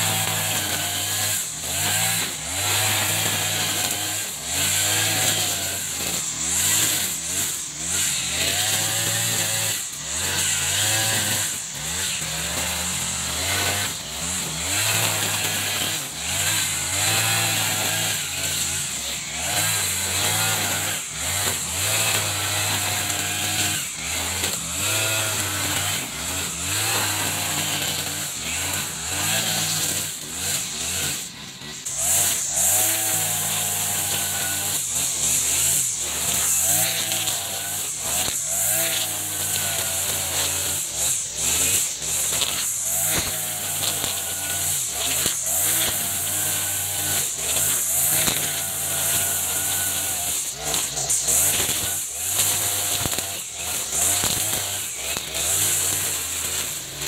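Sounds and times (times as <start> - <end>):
brush cutter cutting grass: 0.0 - 57.0.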